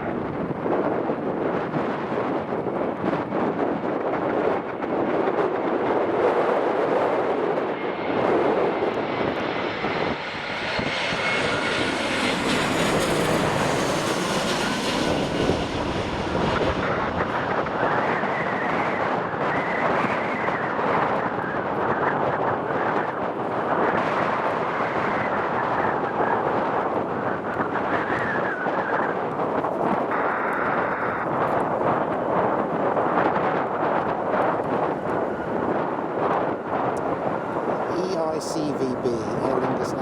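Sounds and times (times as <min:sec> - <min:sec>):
airliner engines rushing: 0:00.0 - 0:40.0
wind buffeting microphone: 0:00.0 - 0:40.0.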